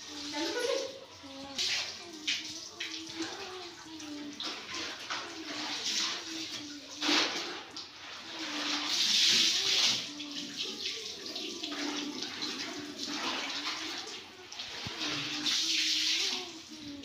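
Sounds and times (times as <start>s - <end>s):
water sloshing in a bucket: 0.0s - 17.0s.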